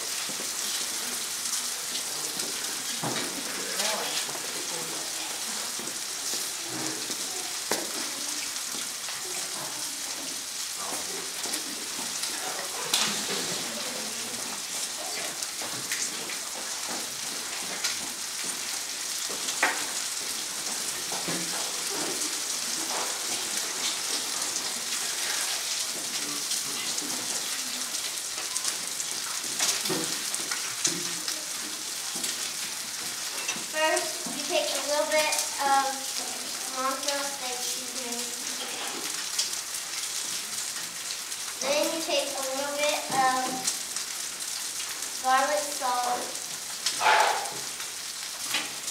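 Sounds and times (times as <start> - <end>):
steak sizzling in a pan: 0.0 - 48.9.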